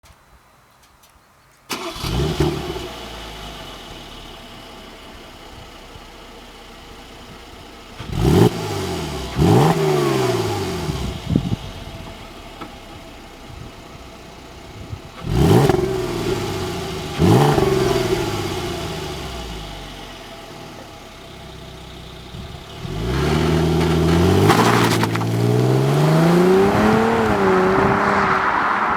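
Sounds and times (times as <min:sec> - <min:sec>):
car engine idling and revving: 0:01.7 - 0:28.9.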